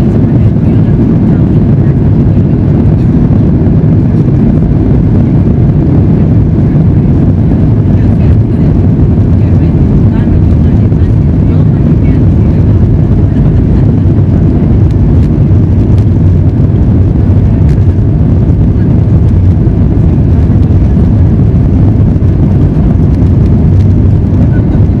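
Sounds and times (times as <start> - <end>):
jet cabin rumble on runway: 0.0 - 25.0.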